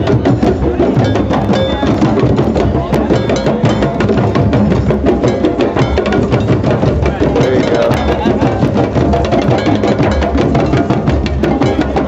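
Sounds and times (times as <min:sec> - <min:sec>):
hand drums playing fast rhythm: 0:00.0 - 0:12.0.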